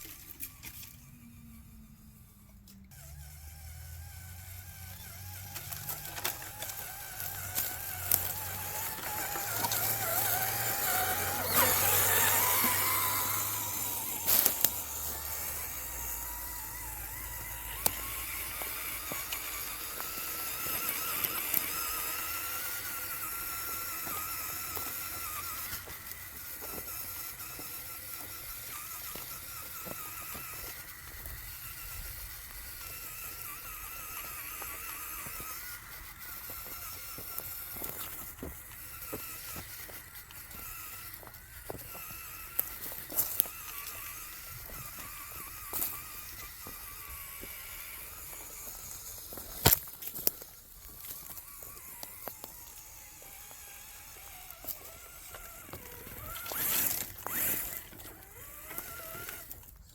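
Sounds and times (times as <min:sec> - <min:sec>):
electric motor and gears whining: 0:00.0 - 0:59.9.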